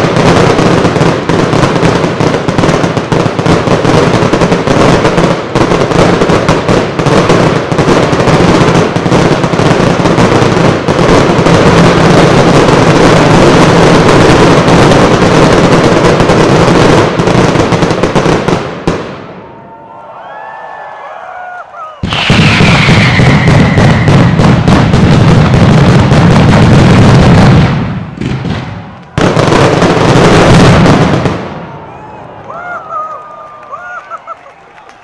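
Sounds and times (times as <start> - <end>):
fireworks bangs and crackle: 0.0 - 19.7, 20.8 - 35.0.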